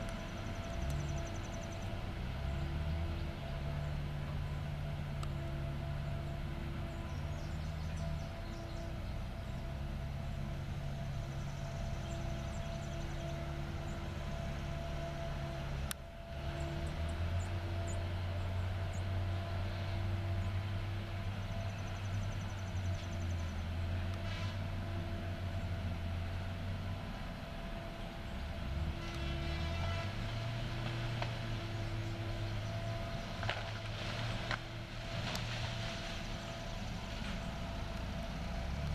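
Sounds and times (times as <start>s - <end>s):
diesel machine engine drone: 0.0s - 38.9s.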